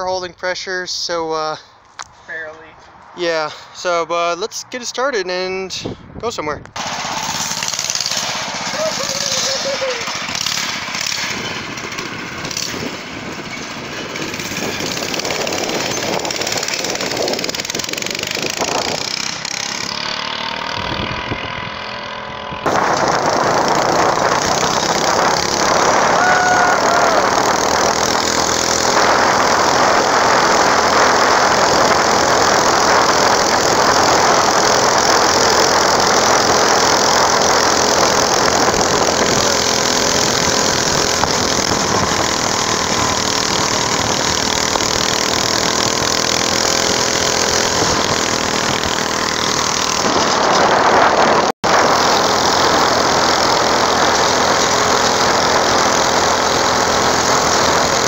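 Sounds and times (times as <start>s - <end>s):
go-kart engine running: 6.8s - 58.0s.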